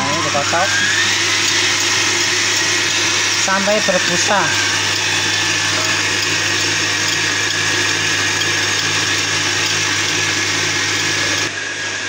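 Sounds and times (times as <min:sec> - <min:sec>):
stand mixer motor hum: 0:00.0 - 0:12.0.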